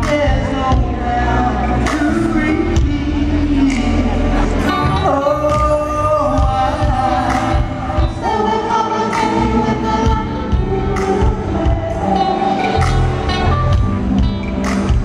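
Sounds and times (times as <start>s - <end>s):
live rhythm and blues band: 0.0s - 15.0s.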